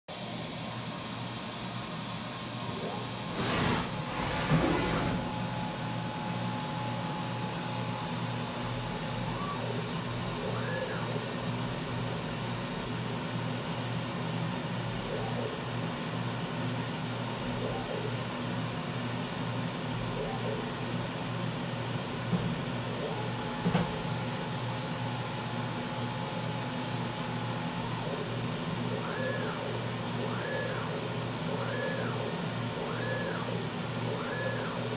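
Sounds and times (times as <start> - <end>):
machine hum: 0.2 - 34.9.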